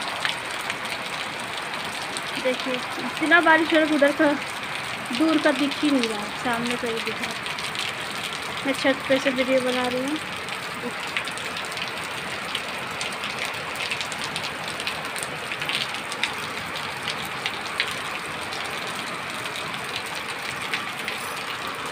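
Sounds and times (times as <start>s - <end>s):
heavy rain on concrete roof: 0.0s - 21.9s
sharp ticks of raindrops: 0.0s - 21.9s.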